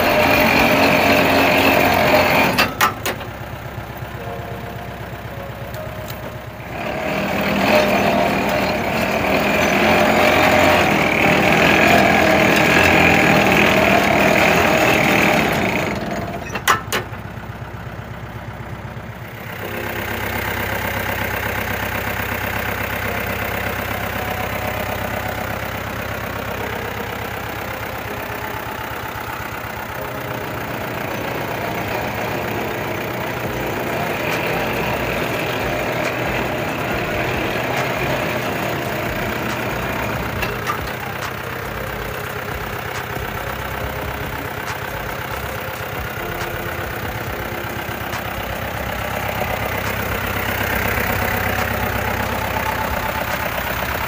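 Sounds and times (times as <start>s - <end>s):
drilling rig engine running: 0.0s - 54.0s.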